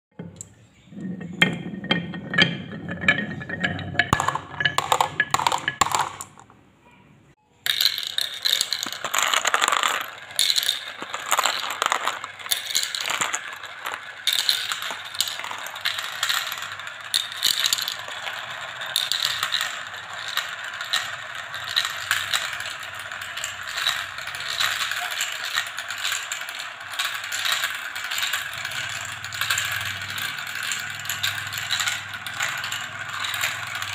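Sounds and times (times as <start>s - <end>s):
marble rolling down wooden track: 0.2s - 6.6s, 7.7s - 33.9s
balls clattering in plastic marble run: 0.3s - 6.6s, 7.7s - 33.9s.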